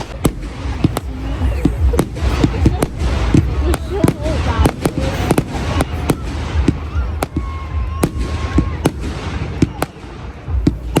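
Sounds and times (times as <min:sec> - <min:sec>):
fireworks banging and cracking: 0:00.0 - 0:11.0
whistling firework: 0:00.0 - 0:11.0.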